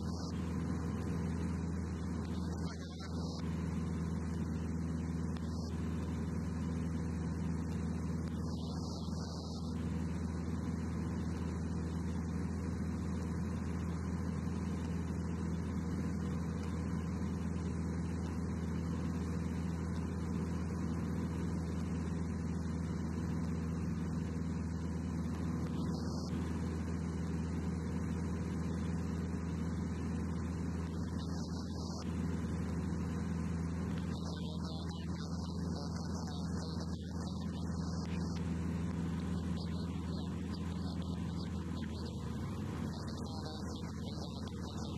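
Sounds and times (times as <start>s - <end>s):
light aircraft engine droning: 0.0s - 44.9s.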